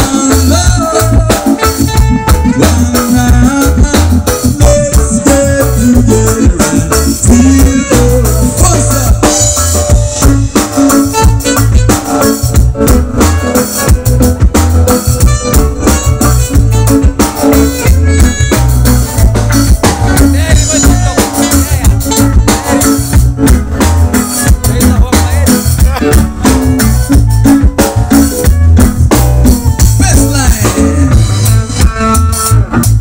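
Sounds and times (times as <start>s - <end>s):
live band playing loud: 0.0s - 33.0s.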